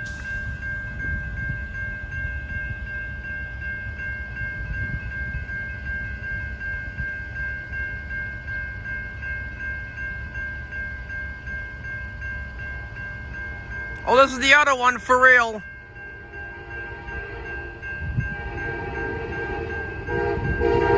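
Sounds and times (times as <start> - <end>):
railroad crossing bell ringing: 0.0 - 20.9.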